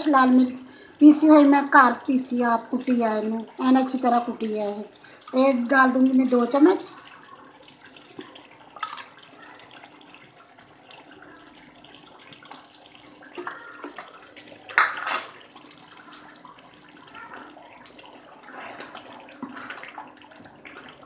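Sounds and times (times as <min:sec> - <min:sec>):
meat sizzling and bubbling in oil: 0:00.0 - 0:21.0.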